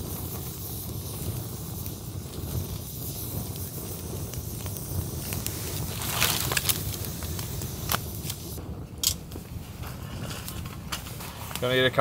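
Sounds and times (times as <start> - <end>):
campfire flames rushing: 0.0 - 12.0
fire crackles: 0.0 - 12.0.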